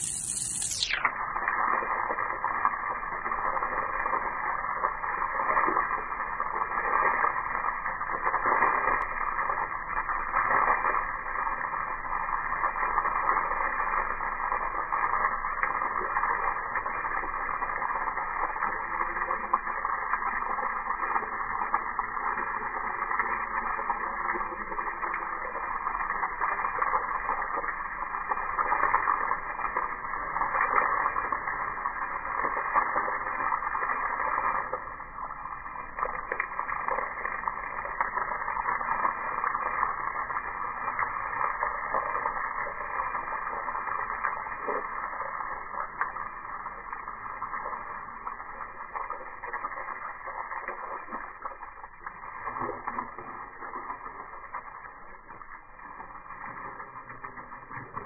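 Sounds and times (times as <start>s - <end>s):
slowed water spray hiss: 0.0s - 58.0s.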